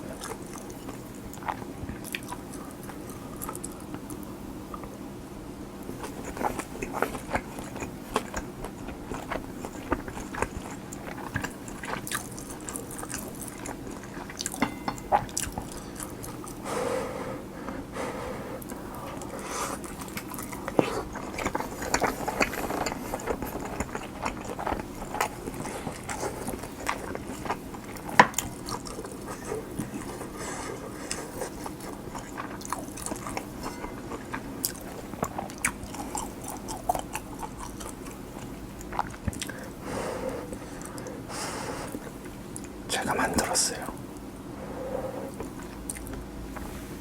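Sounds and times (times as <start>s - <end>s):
wet chewing of food: 0.0s - 5.0s, 5.8s - 42.8s, 44.0s - 47.0s.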